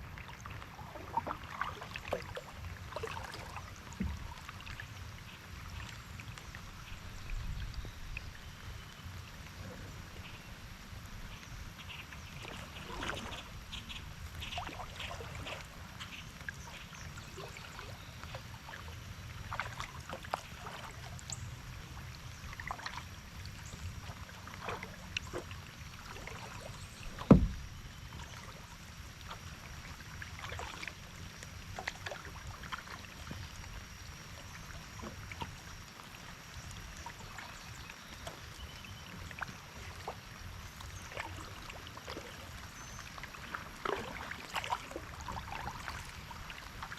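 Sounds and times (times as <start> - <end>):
paddle splashes and drips: 0.0 - 46.9.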